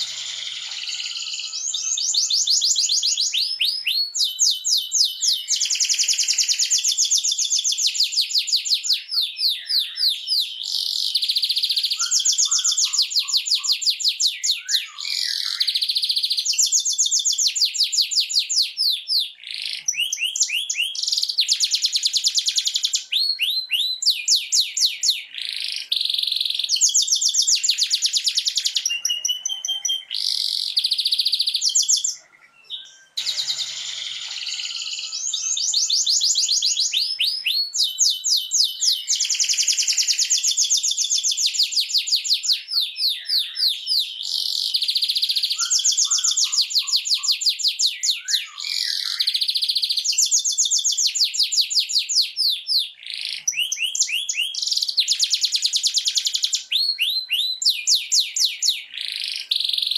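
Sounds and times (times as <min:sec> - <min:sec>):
canary singing fast trills: 0:00.0 - 0:59.9.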